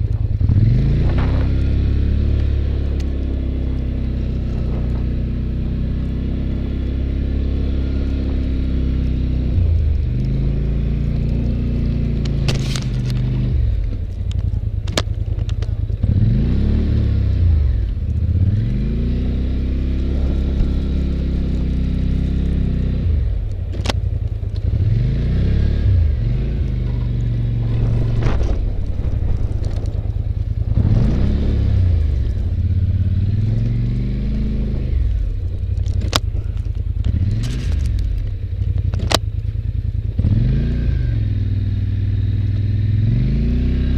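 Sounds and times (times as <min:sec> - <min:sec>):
atv engine revving: 0:00.0 - 0:43.9.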